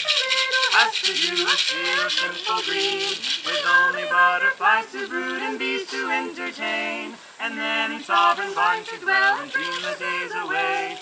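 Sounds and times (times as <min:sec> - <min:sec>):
choir singing slow melody: 0:00.0 - 0:11.0.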